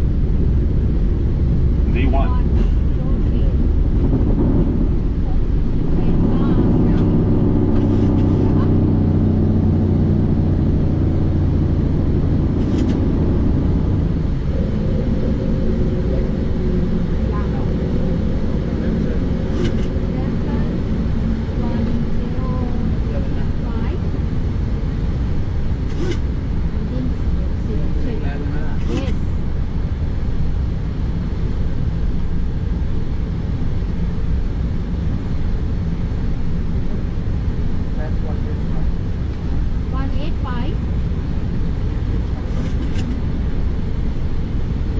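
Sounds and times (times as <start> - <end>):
aircraft piston engine running: 0.0 - 44.9.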